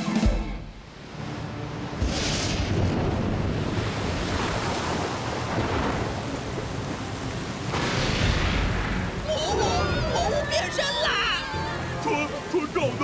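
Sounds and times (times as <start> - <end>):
stormy sea rushing: 0.6 - 13.0.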